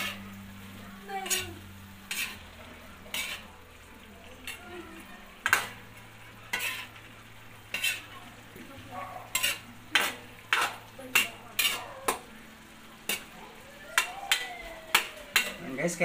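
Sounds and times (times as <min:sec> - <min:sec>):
spoon scraping a pan: 0:00.0 - 0:00.4, 0:01.2 - 0:04.7, 0:05.4 - 0:12.3, 0:13.0 - 0:13.4, 0:14.0 - 0:15.8
stew simmering sizzle: 0:00.0 - 0:16.0.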